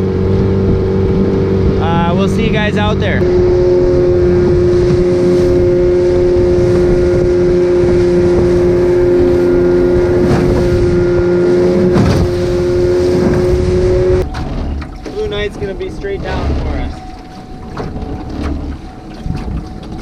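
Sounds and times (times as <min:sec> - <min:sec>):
boat motor droning: 0:00.0 - 0:20.0
rushing water noise: 0:00.0 - 0:20.0.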